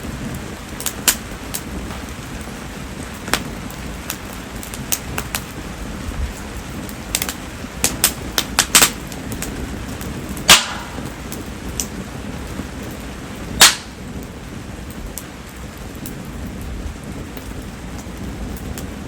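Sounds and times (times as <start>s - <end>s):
bonfire popping: 0.0s - 19.0s
rain falling: 0.0s - 19.0s.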